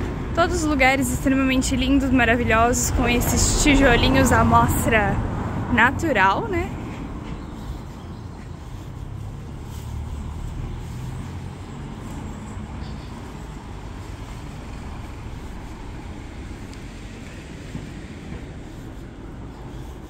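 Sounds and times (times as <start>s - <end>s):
passing vehicle rumble: 0.0s - 20.0s
street traffic noise: 0.0s - 20.0s.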